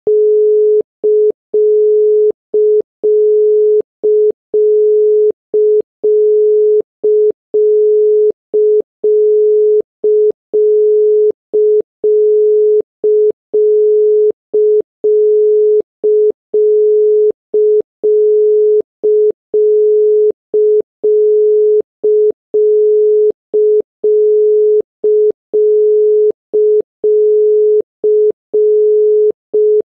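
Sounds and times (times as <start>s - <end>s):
telephone number unobtainable tone: 0.1s - 29.9s.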